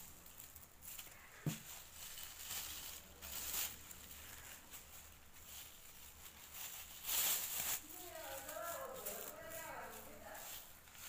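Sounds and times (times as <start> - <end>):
plastic bags rustling and crinkling: 0.0 - 11.0.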